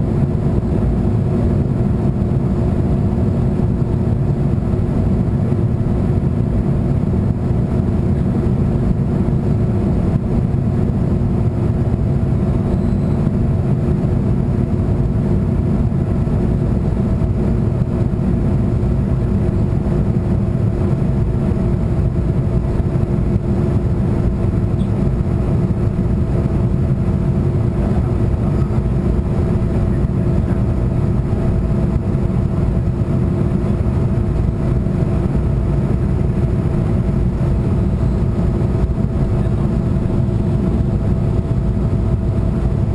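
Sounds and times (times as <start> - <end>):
airliner cabin drone: 0.0 - 42.9
faint constant hum: 0.0 - 42.9.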